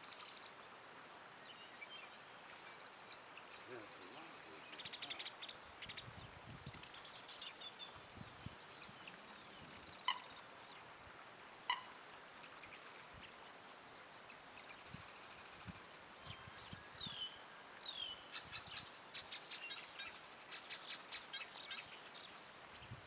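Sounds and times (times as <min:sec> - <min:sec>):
songbirds trilling and chirping: 0:00.0 - 0:11.0, 0:11.6 - 0:23.0.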